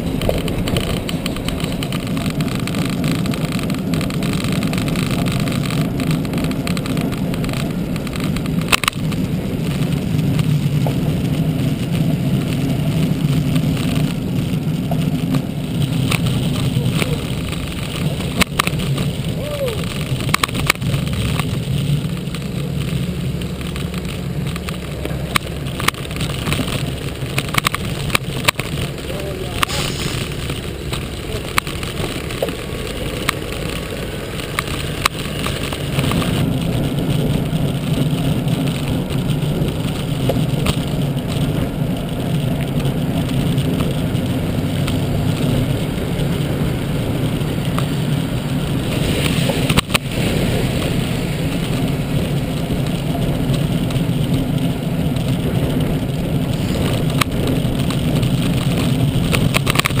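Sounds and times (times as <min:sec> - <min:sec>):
wind and road rumble: 0:00.0 - 1:00.0.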